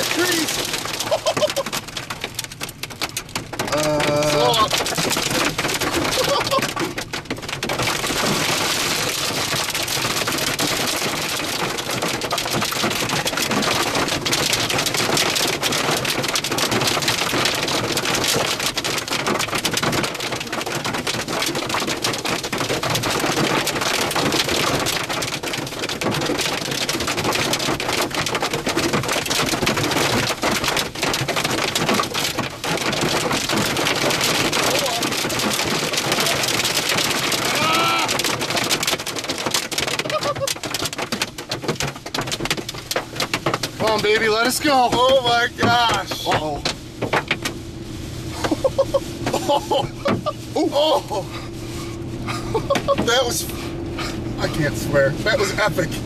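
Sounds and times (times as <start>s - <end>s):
rain and hail on car roof: 0.0s - 56.0s.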